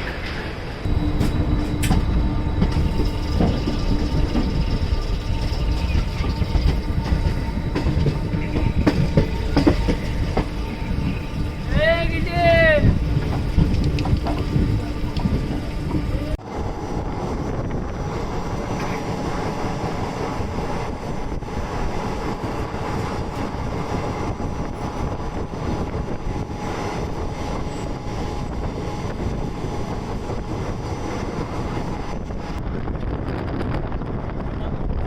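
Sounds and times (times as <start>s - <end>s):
train carriage rumble and rattle: 0.0s - 35.0s
wind on microphone: 0.8s - 35.0s.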